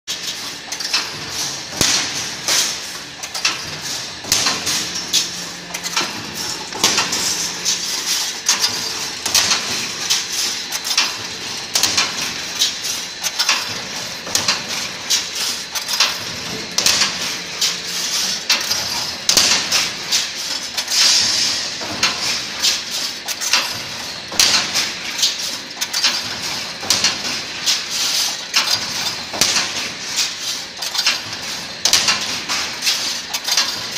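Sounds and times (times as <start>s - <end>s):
wire mesh machine clattering: 0.2s - 33.9s.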